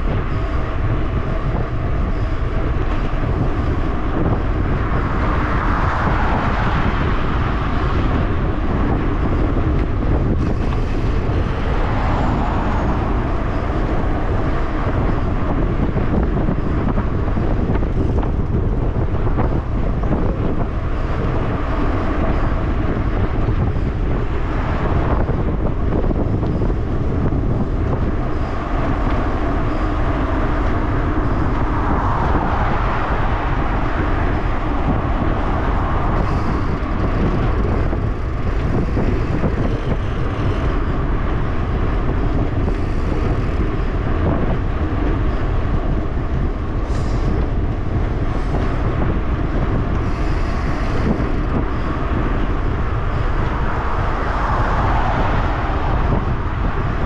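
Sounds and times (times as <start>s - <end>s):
passing traffic: 0.0s - 57.0s
wind buffeting camera: 0.0s - 57.0s.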